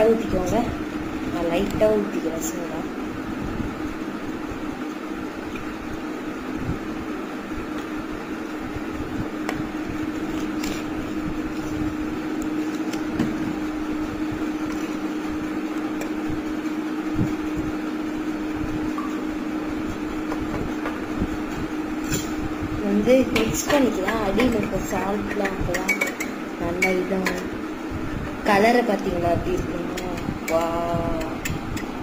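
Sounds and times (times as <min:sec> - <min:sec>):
steady hum with hiss: 0:00.0 - 0:32.0.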